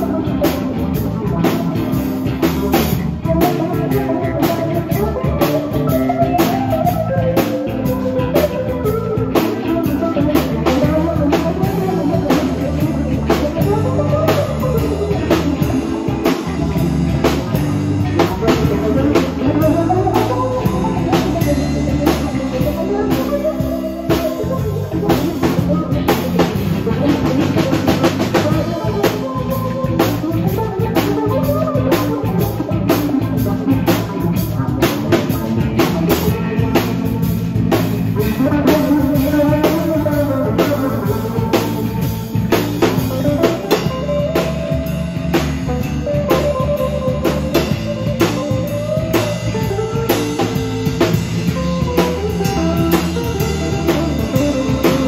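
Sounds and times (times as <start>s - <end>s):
drum kit steady beat: 0.0s - 55.0s
electric bass: 0.0s - 55.0s
electric guitars: 0.0s - 55.0s.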